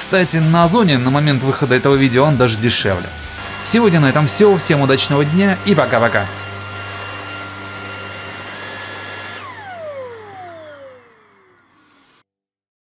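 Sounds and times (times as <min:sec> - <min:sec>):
stick vacuum whining: 0:00.0 - 0:12.2
vacuum motor spinning down: 0:00.0 - 0:12.2.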